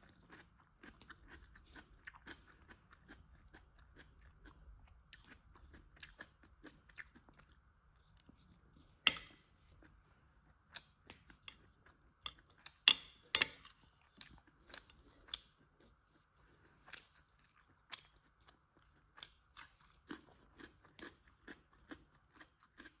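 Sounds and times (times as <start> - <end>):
crunchy food being chewed: 0.0 - 23.0.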